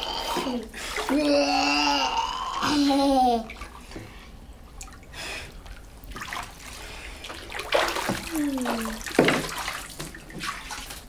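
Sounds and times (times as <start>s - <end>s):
bathwater sloshing and splashing: 0.0s - 11.0s.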